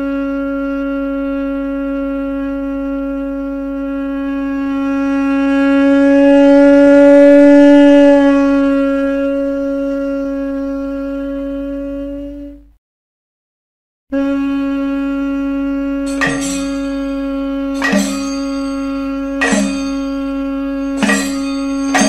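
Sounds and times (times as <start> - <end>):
horn holding a long note: 0.0 - 12.7, 14.1 - 22.0.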